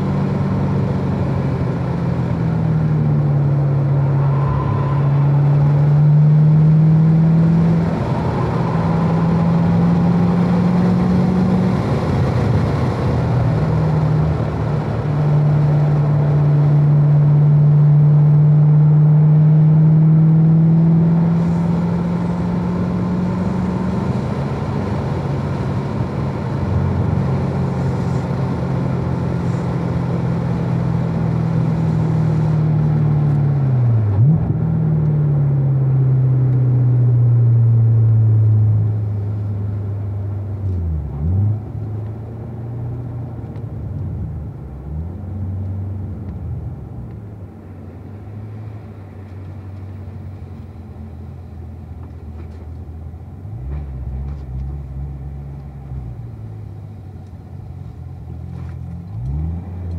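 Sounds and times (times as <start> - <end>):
car engine slowing down with downshifts: 0.0 - 59.9.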